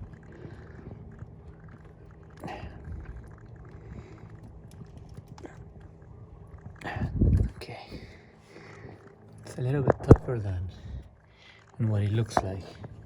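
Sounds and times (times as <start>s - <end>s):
faint rustling and small clicks: 0.0s - 13.0s.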